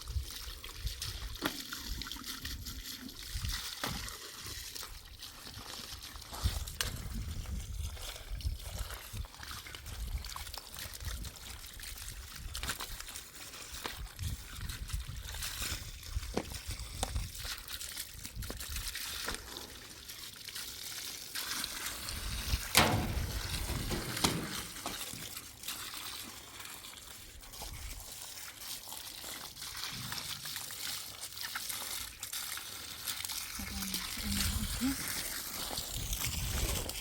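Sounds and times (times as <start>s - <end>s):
water trickling and splashing: 0.0s - 37.0s.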